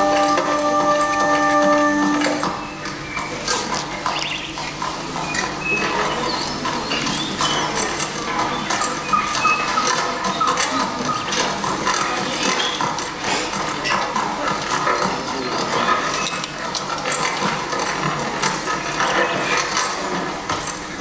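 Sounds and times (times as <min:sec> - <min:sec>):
horse hooves clattering on rocks: 0:00.0 - 0:21.0.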